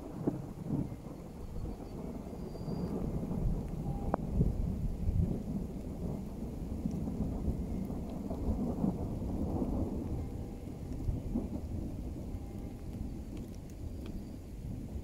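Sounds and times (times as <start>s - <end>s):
rain hiss: 0.0s - 15.0s
thunder rumbling: 0.0s - 15.0s.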